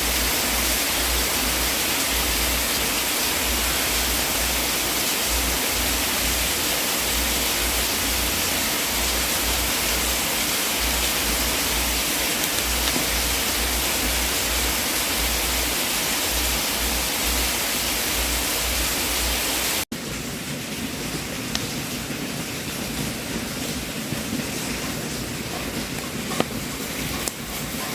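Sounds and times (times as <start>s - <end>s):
fireplace fire hissing: 0.0s - 27.9s.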